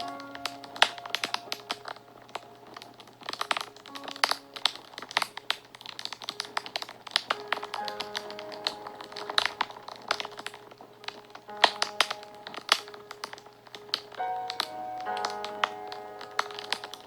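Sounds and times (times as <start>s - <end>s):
soft background music: 0.0s - 17.0s
wood fire crackling: 0.0s - 17.0s.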